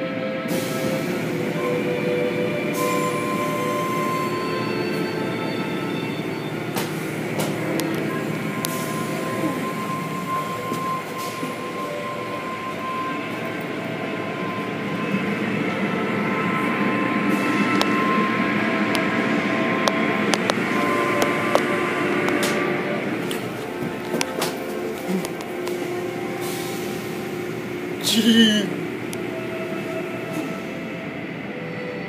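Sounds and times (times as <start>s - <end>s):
steady whine: 0.7s - 31.7s.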